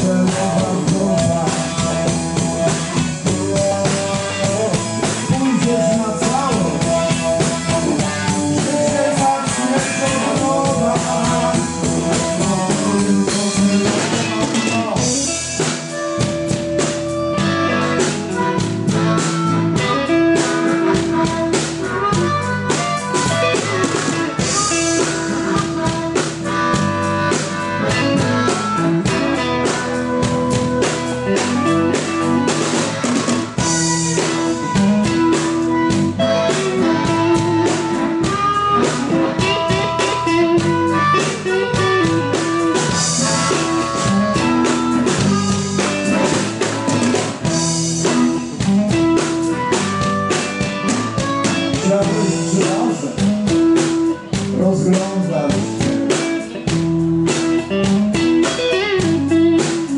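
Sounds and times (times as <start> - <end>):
bass guitar: 0.0 - 59.9
drums and cymbals: 0.0 - 59.9
electric guitars: 0.0 - 59.9.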